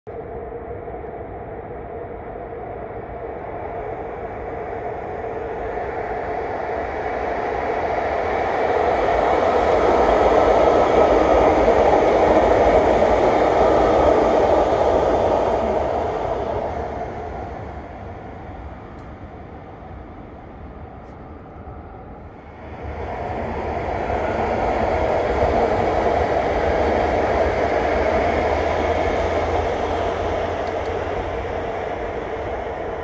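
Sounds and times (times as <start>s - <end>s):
electric train rumbling past: 0.1s - 33.0s.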